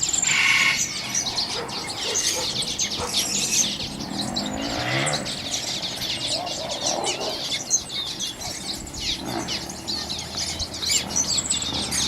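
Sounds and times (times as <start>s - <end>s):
caged songbirds chirping: 0.0s - 12.0s
loud bird call: 0.0s - 12.0s.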